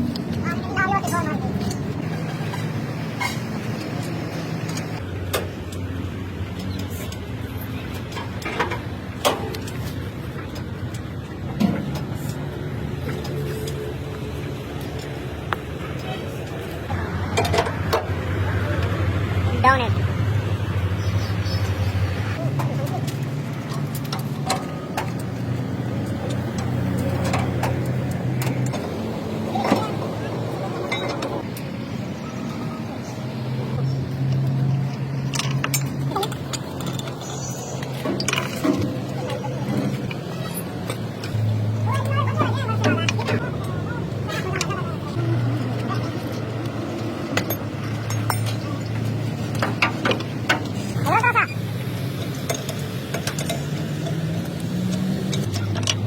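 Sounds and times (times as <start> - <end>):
engine droning: 0.0 - 56.0.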